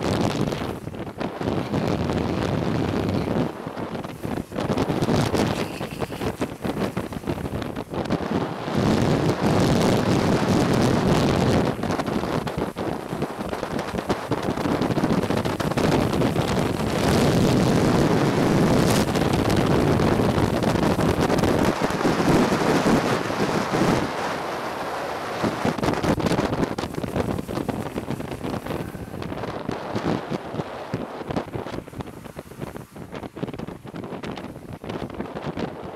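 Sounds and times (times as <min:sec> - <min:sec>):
wind rushing over microphone: 0:00.0 - 0:35.9.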